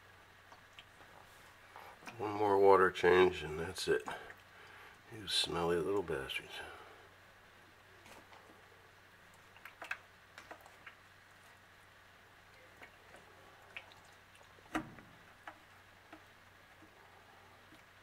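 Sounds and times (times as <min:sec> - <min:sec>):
small water sounds: 0:00.0 - 0:18.0.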